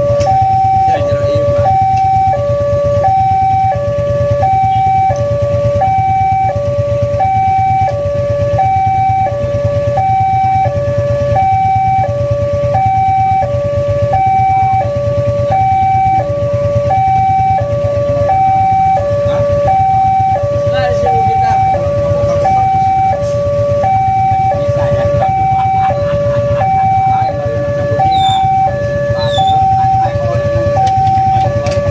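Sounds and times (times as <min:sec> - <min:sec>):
level crossing two-tone alarm: 0:00.0 - 0:31.9.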